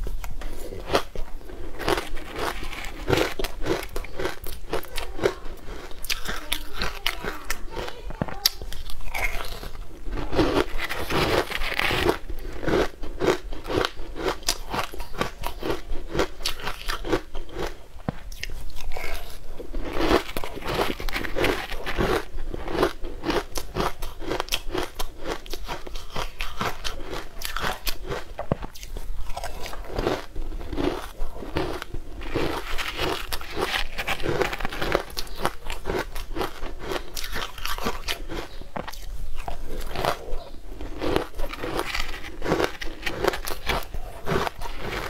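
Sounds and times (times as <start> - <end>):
crunching and chewing dry food: 0.0 - 45.0.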